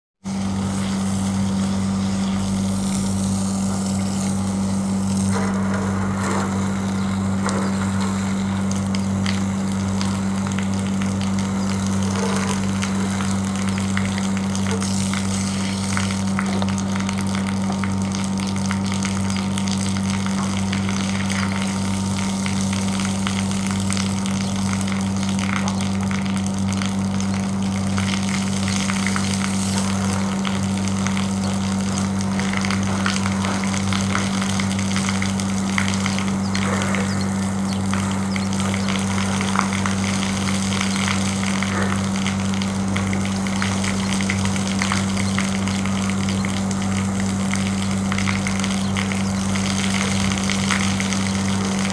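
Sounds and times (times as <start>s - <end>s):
hose water splashing on metal: 0.2s - 51.9s
low electric hum: 0.2s - 51.9s.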